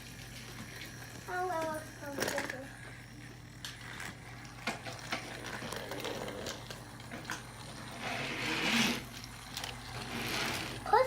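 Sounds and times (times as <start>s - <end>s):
toy train motor whir: 0.0s - 11.0s.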